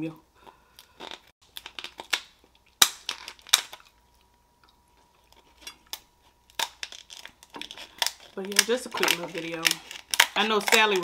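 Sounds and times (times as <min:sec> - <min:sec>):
shears cracking lobster shell: 0:00.8 - 0:04.2, 0:05.3 - 0:11.0.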